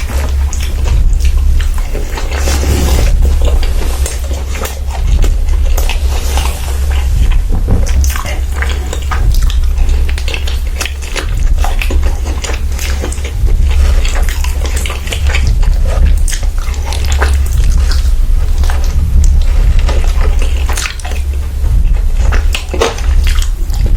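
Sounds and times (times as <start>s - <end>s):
chewing and biting food: 0.0s - 23.9s
steady low hum: 0.0s - 23.9s.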